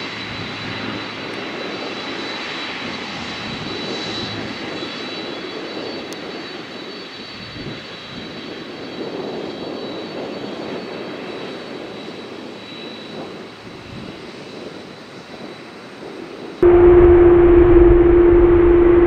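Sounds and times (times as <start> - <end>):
jet engines taxiing: 0.0 - 19.0.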